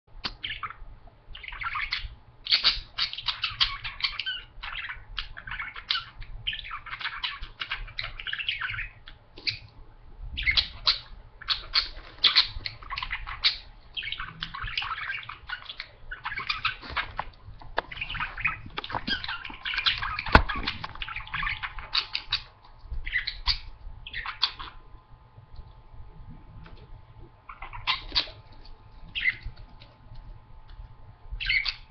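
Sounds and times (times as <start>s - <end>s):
budgerigars chattering and warbling: 0.4s - 9.7s, 10.4s - 24.8s, 27.4s - 28.4s, 29.1s - 29.5s, 31.4s - 31.9s.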